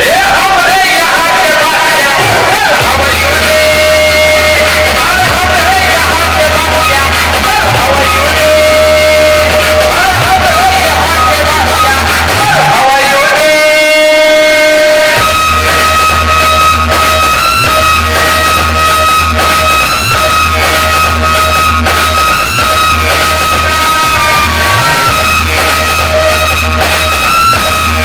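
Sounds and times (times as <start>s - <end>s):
heavy bass: 0.0s - 28.0s.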